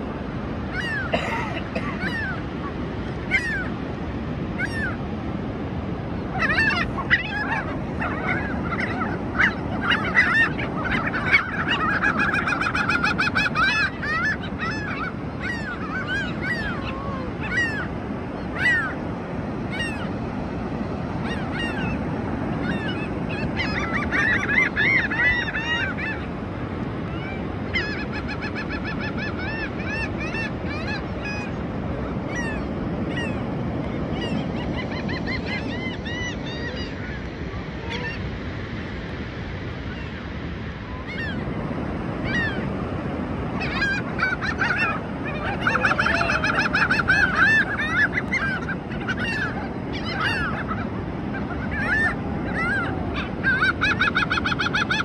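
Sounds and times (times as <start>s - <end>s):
low rush of surf: 0.0s - 55.0s
gulls squawking: 0.6s - 3.8s, 4.4s - 5.0s, 6.1s - 38.3s, 40.9s - 55.0s.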